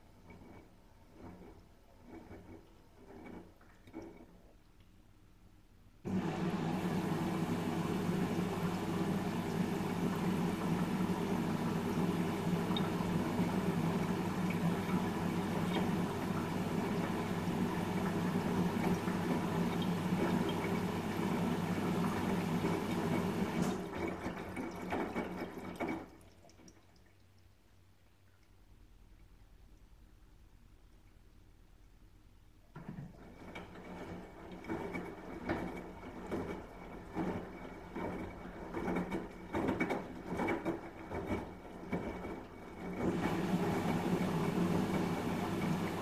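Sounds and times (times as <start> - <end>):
washing machine water rushing: 0.0 - 4.7, 6.0 - 27.9, 28.5 - 46.0
washing machine motor hum: 6.0 - 27.2, 28.6 - 46.0.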